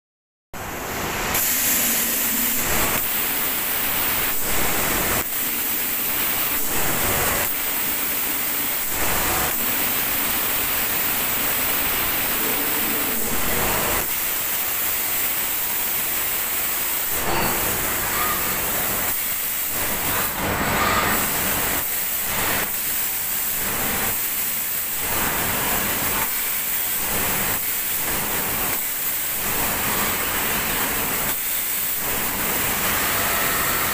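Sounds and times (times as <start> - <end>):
spray gun hissing: 0.8 - 33.9.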